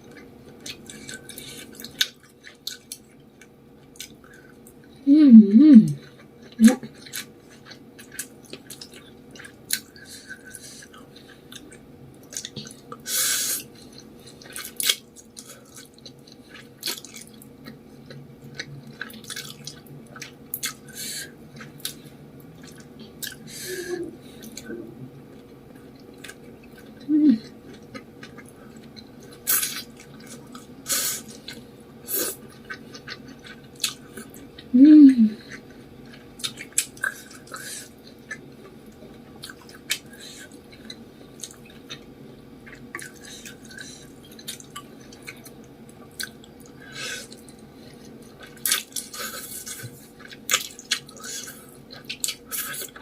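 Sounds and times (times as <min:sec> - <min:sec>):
wet chewing and mouth clicks: 0:06.0 - 0:13.0, 0:13.6 - 0:23.4, 0:25.3 - 0:31.6, 0:32.4 - 0:34.7, 0:35.5 - 0:53.0.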